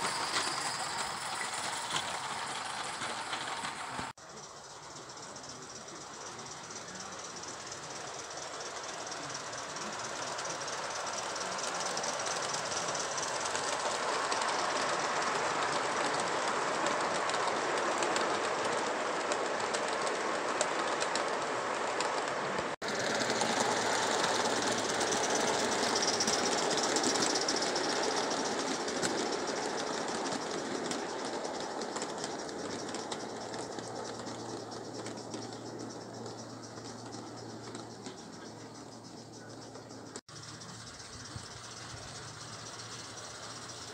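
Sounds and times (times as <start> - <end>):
model train wheels rumbling on rail: 0.0 - 43.9
light clicking of coaches: 4.8 - 43.9.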